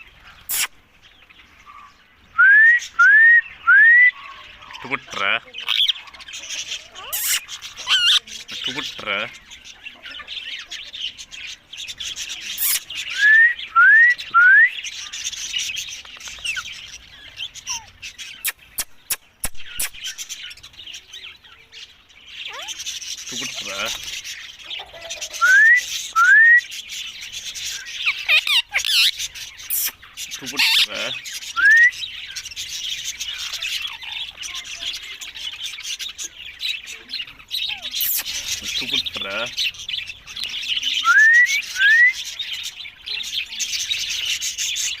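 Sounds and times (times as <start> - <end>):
parrots chirping and chattering: 0.0 - 45.0.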